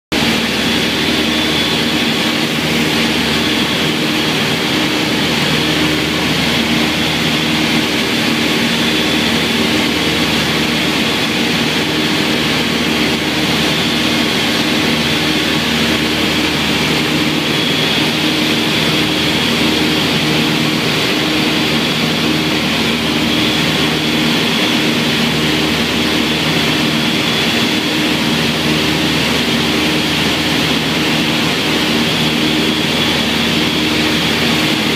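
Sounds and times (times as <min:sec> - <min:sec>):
aircraft engines droning: 0:00.1 - 0:34.9
high whine: 0:00.1 - 0:34.9.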